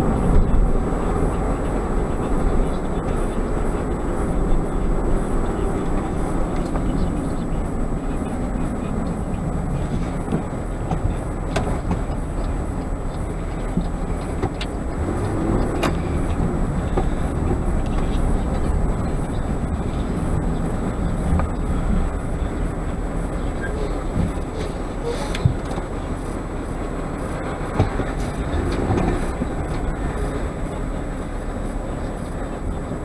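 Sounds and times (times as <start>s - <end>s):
car road noise rumble: 0.0s - 33.0s.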